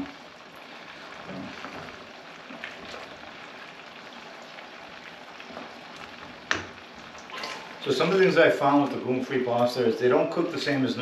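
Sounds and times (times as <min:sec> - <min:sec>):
pot of water boiling: 0:00.0 - 0:11.0.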